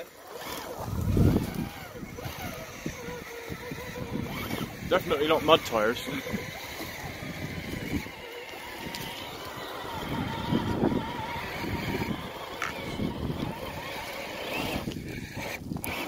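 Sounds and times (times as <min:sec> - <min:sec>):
electric motor whine: 0:00.0 - 0:16.0
tyres scrabbling on dirt: 0:00.0 - 0:16.0.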